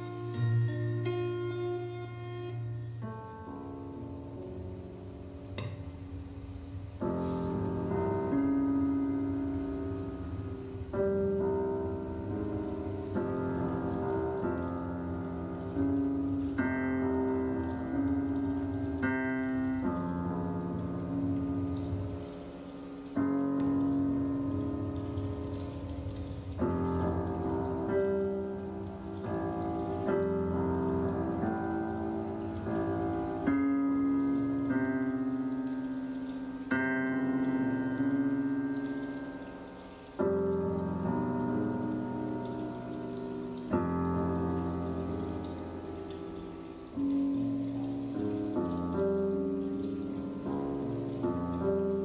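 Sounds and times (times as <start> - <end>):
slow piano chords: 0.0 - 52.0.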